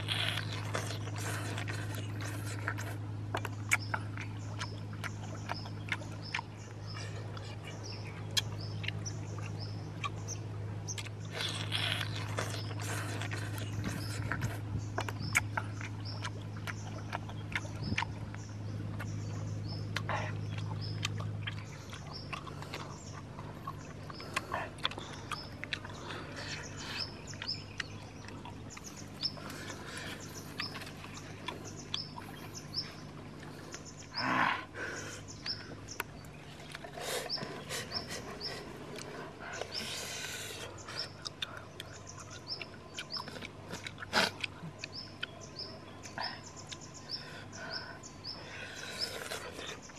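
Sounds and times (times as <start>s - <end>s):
bird chirping: 0.0s - 49.9s
steady low hum: 0.0s - 49.9s.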